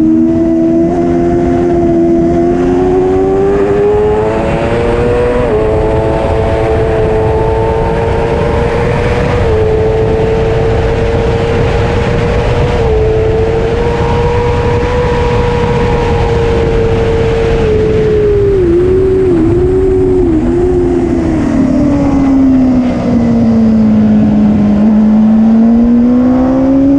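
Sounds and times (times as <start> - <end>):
motorbike engine at high revs: 0.0 - 26.9.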